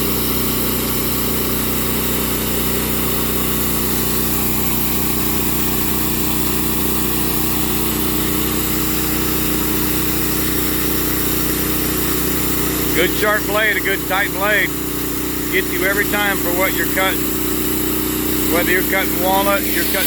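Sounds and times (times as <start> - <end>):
sawmill mechanical hum: 0.0 - 20.0.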